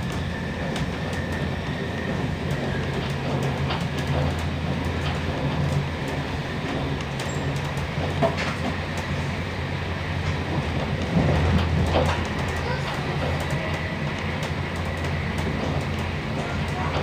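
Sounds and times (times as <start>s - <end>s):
train running rumble: 0.0s - 17.0s
wheels clicking on rails: 0.0s - 17.0s.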